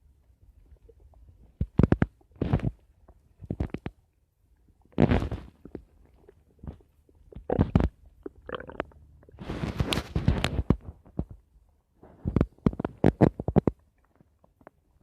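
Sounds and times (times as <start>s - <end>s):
stomach gurgling and rumbling: 0.0s - 15.0s.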